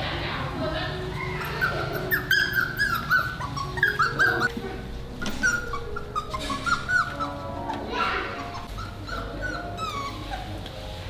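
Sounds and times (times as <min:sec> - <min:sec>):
puppy whining: 0:01.0 - 0:11.0.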